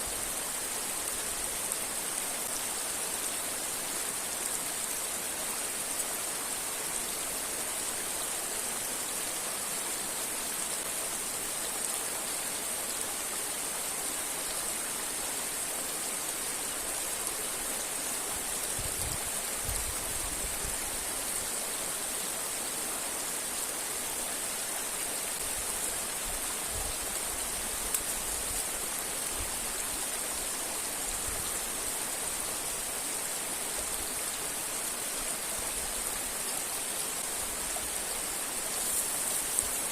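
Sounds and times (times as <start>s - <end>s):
river and waterfall rushing: 0.0s - 39.9s.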